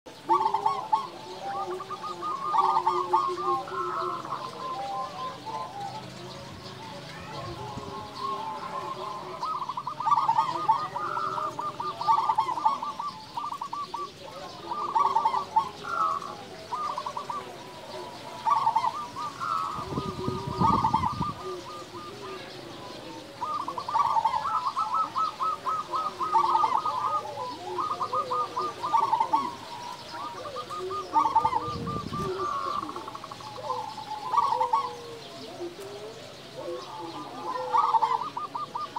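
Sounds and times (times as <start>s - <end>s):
dove cooing: 0.1s - 38.9s.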